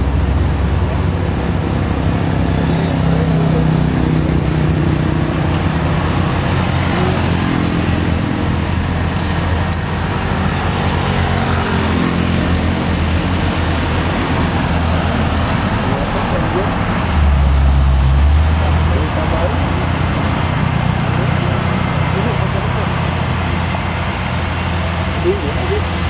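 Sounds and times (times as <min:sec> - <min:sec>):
road noise: 0:00.0 - 0:26.0
truck diesel engine droning: 0:00.0 - 0:26.0.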